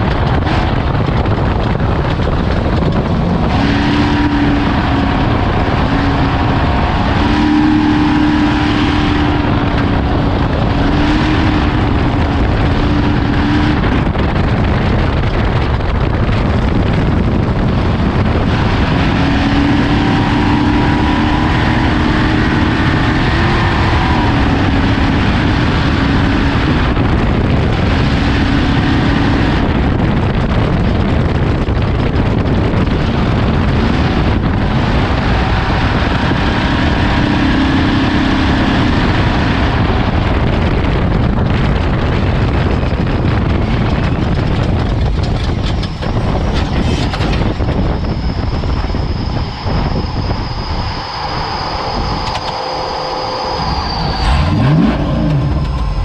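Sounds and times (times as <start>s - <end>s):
race vehicle engine revving: 0.0s - 56.0s
rough terrain noise: 0.0s - 56.0s.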